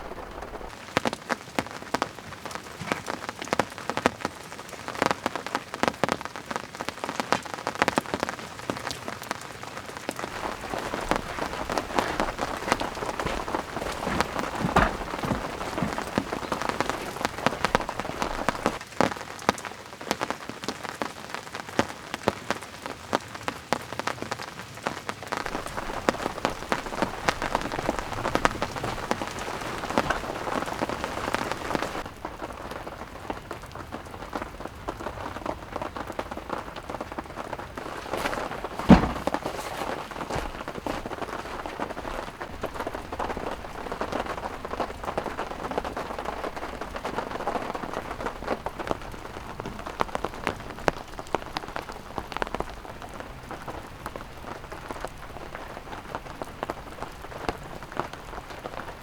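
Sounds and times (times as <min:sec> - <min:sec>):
raindrops pattering: 0:00.0 - 0:59.0
steady rain falling: 0:00.0 - 0:59.0.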